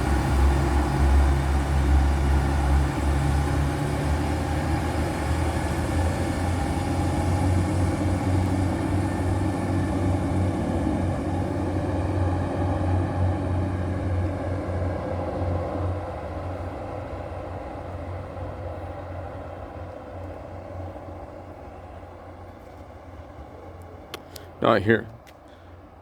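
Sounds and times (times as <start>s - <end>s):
diesel train engine droning: 0.0s - 26.0s.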